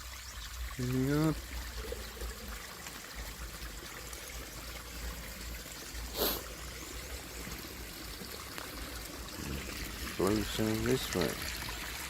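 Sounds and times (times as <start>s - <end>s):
water trickling over rock: 0.0s - 12.0s.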